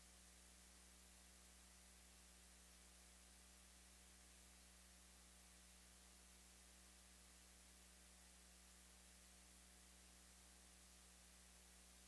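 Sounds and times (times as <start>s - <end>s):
faint low hum with hiss: 0.0s - 12.0s.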